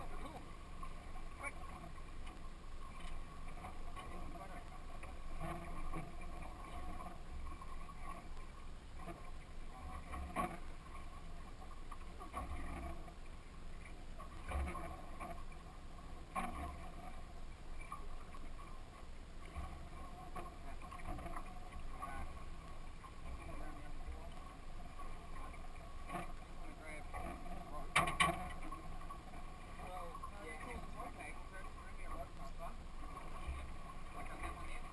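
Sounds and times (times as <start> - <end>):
boat engine rumble and hum: 0.0 - 34.9.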